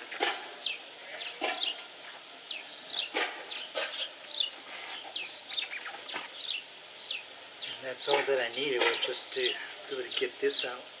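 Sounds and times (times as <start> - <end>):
birds chirping: 0.5 - 10.8.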